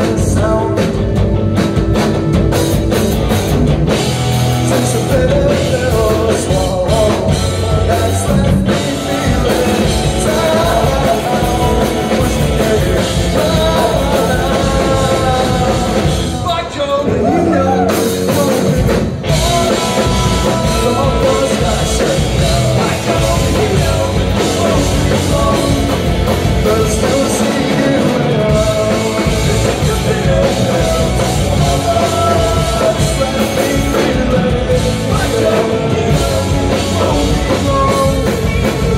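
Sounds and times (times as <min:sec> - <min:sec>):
person singing: 0:00.0 - 0:01.5, 0:04.5 - 0:38.9
live rock band playing: 0:00.0 - 0:38.9.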